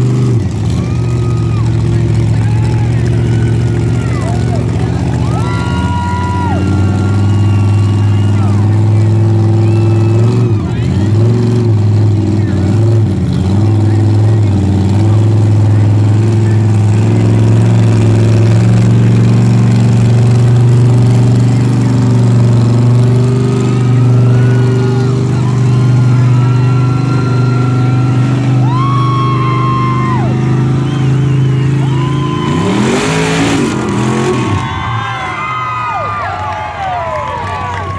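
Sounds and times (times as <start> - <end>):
truck engines at high revs: 0.0 - 37.9
crowd shouting: 0.6 - 11.3, 16.1 - 37.9.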